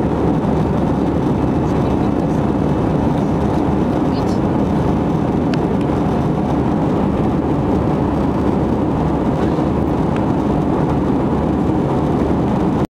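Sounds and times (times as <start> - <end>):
jet engine and airflow rumble: 0.0 - 12.9.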